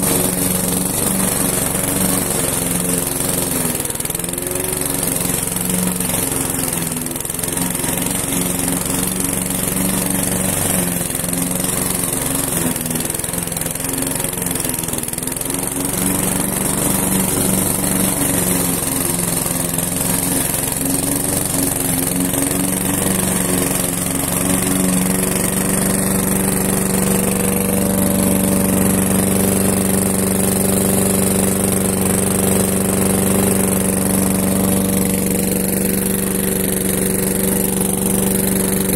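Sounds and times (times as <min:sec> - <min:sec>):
lawn mower engine cutting grass: 0:00.0 - 0:38.9.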